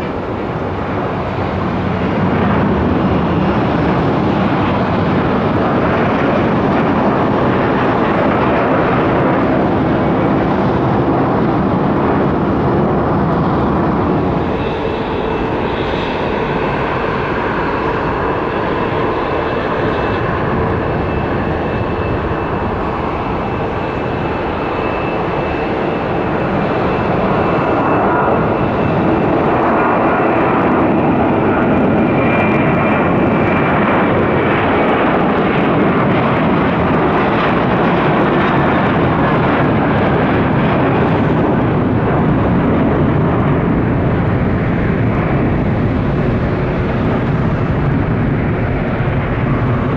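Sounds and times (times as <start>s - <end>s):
jet engines roaring: 0.0s - 49.9s
turbofan engines high whine: 0.0s - 49.9s.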